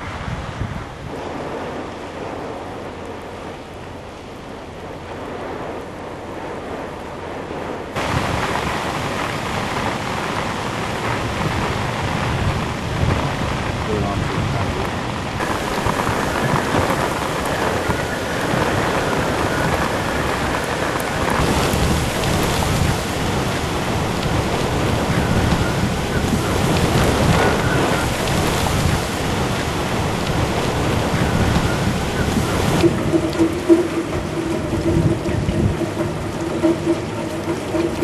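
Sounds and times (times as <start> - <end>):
heavy driving rain: 0.0 - 38.0
hurricane wind: 0.0 - 38.0.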